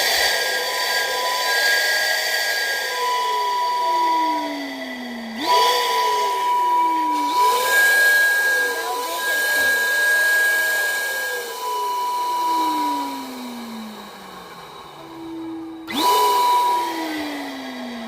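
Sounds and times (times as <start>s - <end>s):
steam hiss: 0.0s - 18.0s
steam whistle: 0.0s - 18.0s.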